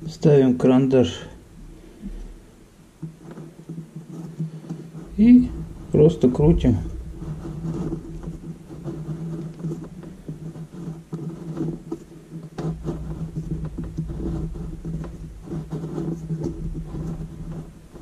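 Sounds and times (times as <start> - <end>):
pencil scratching on wall: 0.0 - 18.0
steady low hum: 0.0 - 18.0.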